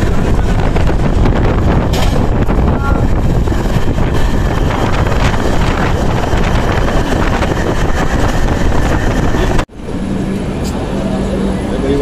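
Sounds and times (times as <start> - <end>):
moving train rumble: 0.0 - 12.0
wind buffeting microphone: 0.0 - 12.0.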